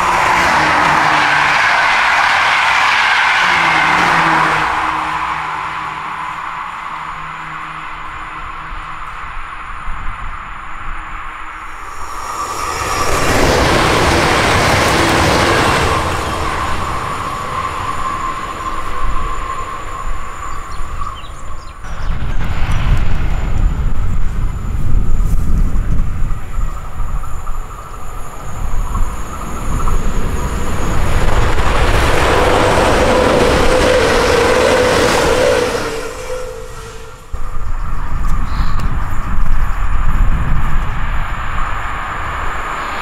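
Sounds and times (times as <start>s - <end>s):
train wheels rushing on rails: 0.0s - 43.0s
high whine: 3.4s - 43.0s.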